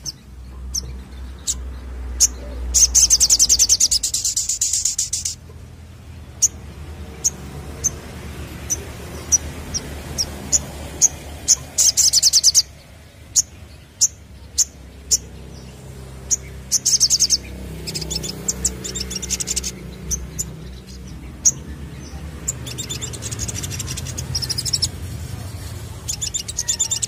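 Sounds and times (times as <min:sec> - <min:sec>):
sunbird chirping and trilling: 0:00.0 - 0:27.0.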